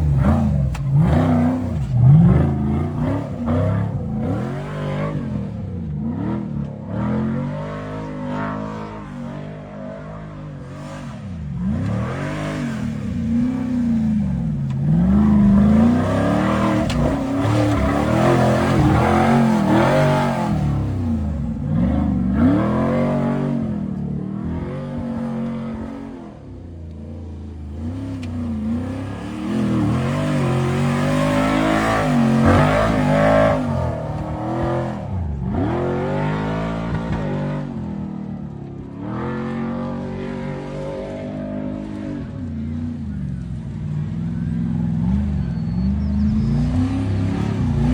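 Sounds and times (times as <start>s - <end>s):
engine revving hard: 0.0s - 38.0s, 46.2s - 47.9s.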